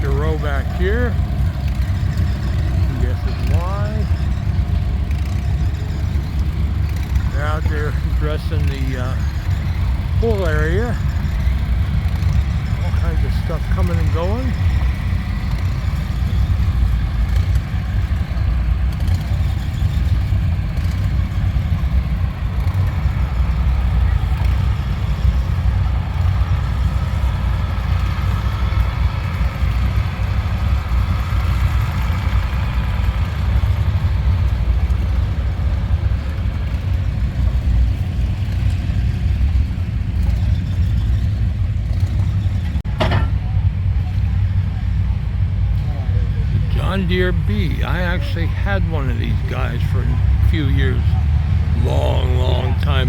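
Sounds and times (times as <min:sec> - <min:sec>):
engine idling: 0:00.0 - 0:43.0, 0:43.6 - 0:53.0.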